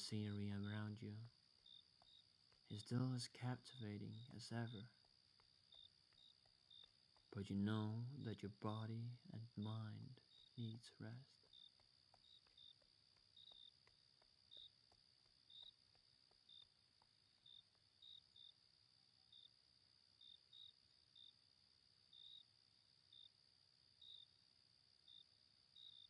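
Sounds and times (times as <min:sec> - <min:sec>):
cricket chirps: 0:00.0 - 0:26.0
crickets trilling: 0:00.0 - 0:26.0.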